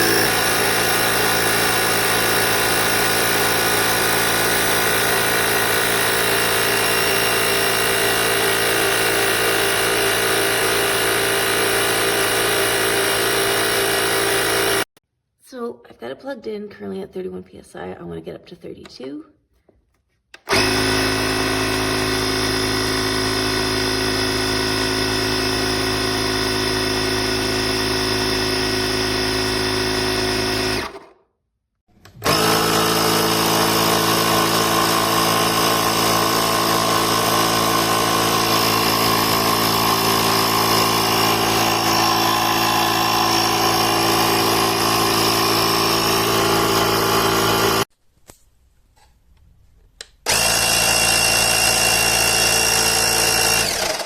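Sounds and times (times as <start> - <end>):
portable air compressor running: 0.0 - 14.9, 20.4 - 31.1, 31.9 - 47.9, 50.2 - 54.0.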